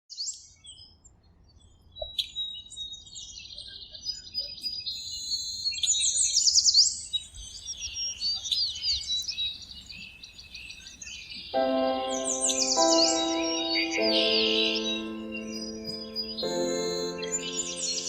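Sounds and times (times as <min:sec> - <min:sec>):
songbirds chirping and trilling: 0:00.4 - 0:18.0.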